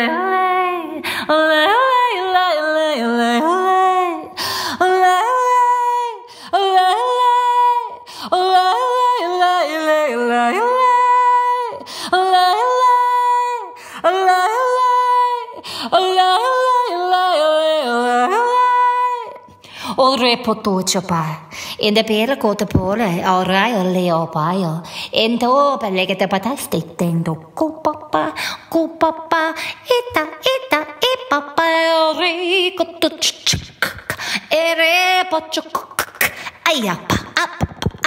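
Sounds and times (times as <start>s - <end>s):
woman singing unaccompanied: 0.0s - 38.0s.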